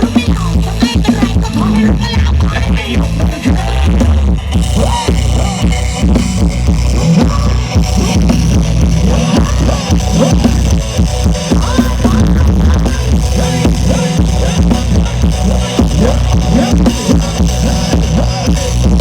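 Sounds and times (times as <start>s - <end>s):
loud music with heavy bass: 0.0s - 19.0s.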